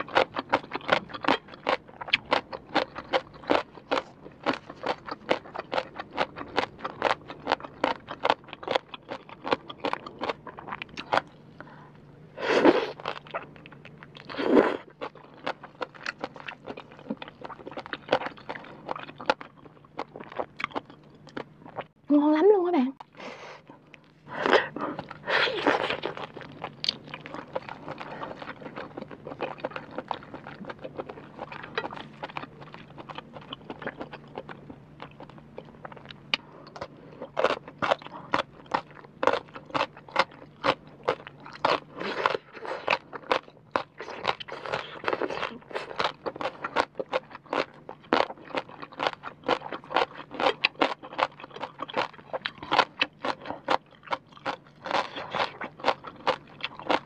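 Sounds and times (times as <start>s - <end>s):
chewing crunchy salad: 0.0s - 22.0s, 23.0s - 57.0s
faint low hum: 0.0s - 57.0s.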